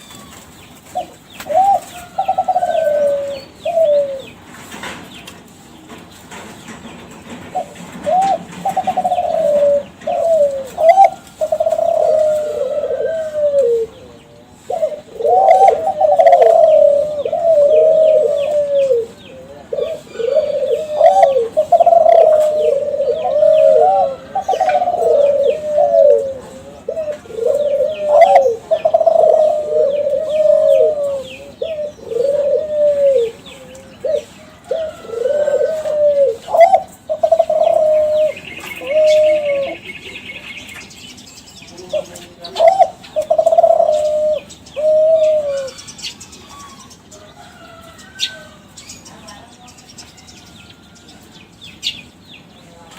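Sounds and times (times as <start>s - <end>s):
dove cooing: 0.0s - 5.1s, 7.0s - 40.8s, 41.8s - 48.7s.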